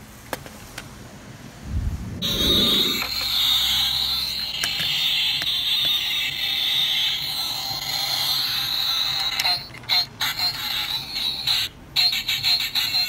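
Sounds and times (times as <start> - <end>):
toy car spring motor whirring: 2.2 - 13.0.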